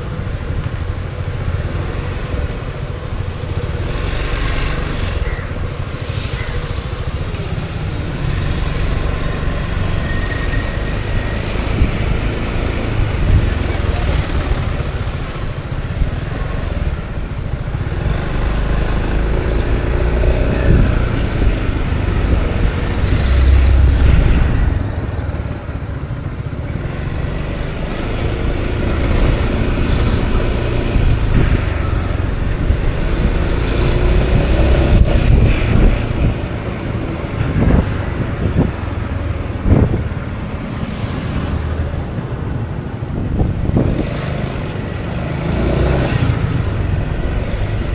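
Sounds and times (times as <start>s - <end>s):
road noise: 0.0s - 47.9s
scooter engine: 0.0s - 47.9s
wind rushing over microphone: 0.0s - 47.9s.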